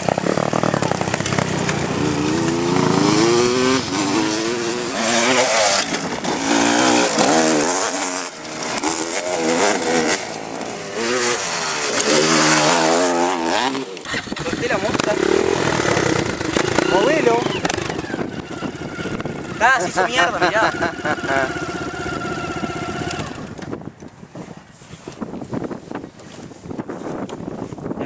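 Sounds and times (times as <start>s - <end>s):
small motorcycle engine revving: 0.0s - 23.7s.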